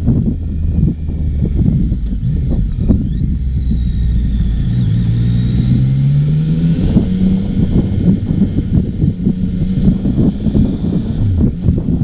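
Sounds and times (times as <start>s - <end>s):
motorcycle engine accelerating: 0.0s - 12.0s
wind buffeting microphone: 0.0s - 12.0s.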